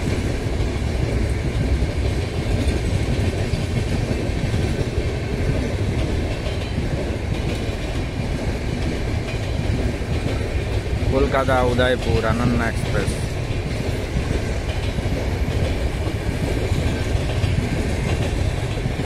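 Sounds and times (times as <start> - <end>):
train rumbling over bridge: 0.0 - 19.0
wheels clattering over rail joints: 0.0 - 19.0.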